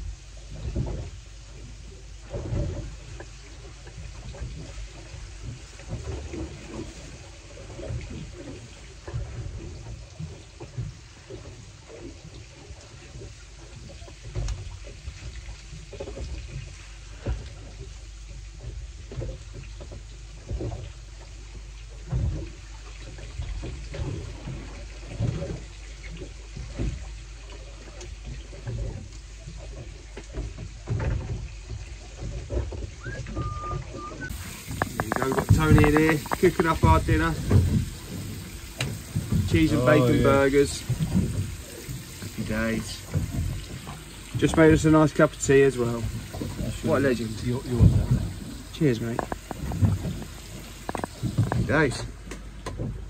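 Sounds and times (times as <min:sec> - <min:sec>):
knocks and splashes: 0:00.0 - 0:53.0
water slapping against boat hull: 0:00.0 - 0:53.0.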